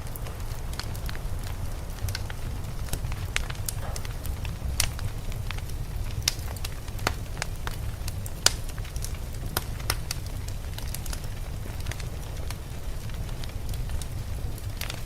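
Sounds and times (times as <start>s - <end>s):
steady low rumble: 0.0s - 14.8s
sharp pops and snaps of fire: 0.0s - 15.0s
wood fire crackling: 0.0s - 15.0s.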